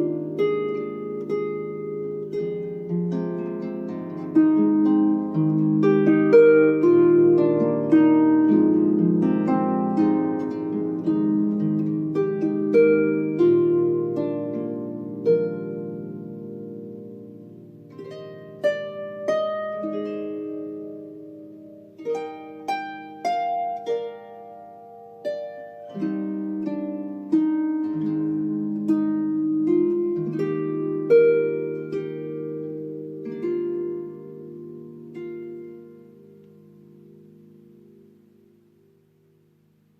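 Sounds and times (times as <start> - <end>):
harp playing: 0.0 - 39.9.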